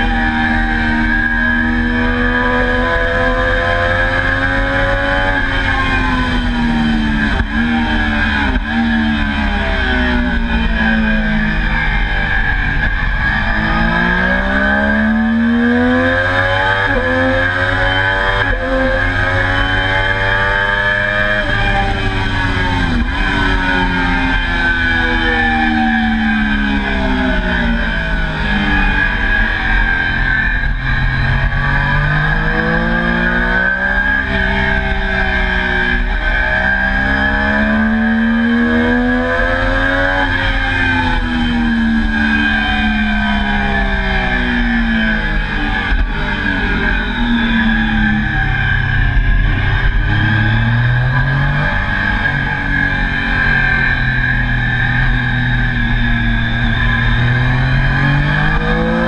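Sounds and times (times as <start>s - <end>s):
motorcycle engine running hard: 0.0s - 59.0s.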